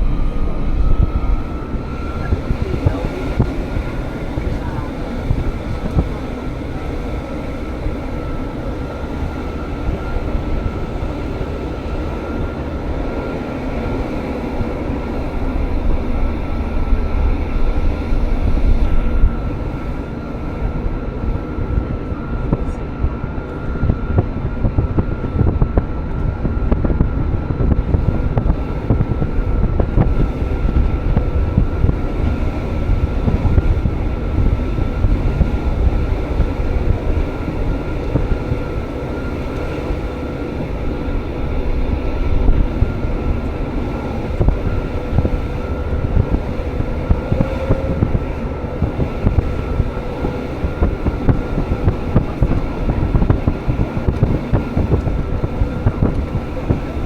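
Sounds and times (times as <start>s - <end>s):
electric train rumbling: 0.0s - 57.0s
faint train whine: 0.0s - 57.0s.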